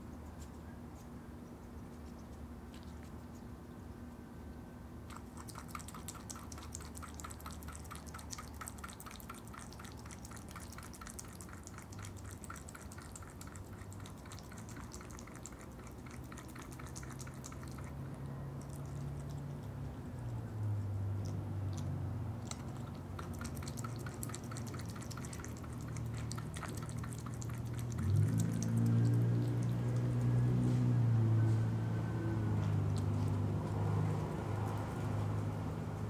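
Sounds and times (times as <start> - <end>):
animal lapping with tongue clicks: 5.1 - 31.7, 32.4 - 36.0.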